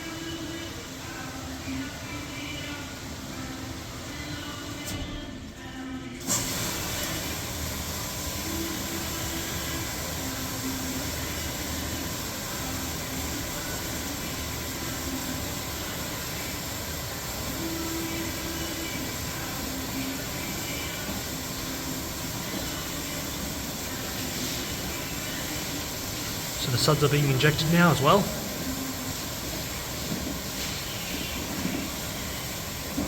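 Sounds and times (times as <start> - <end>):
water rushing into washer: 6.2 - 33.0.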